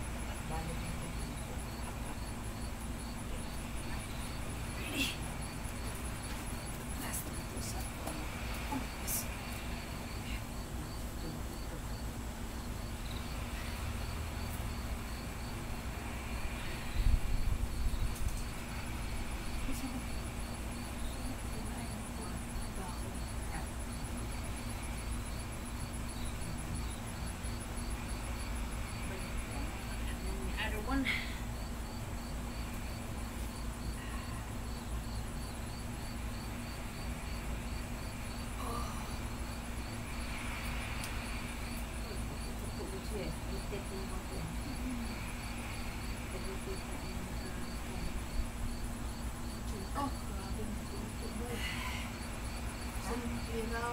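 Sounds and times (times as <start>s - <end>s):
high insect chirp: 0.0s - 53.9s
low background rumble: 0.0s - 53.9s.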